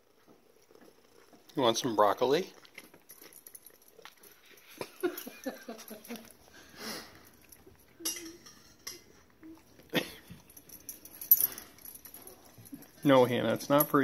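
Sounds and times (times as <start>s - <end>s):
cat chewing crunchily: 0.0s - 8.0s, 9.1s - 14.0s.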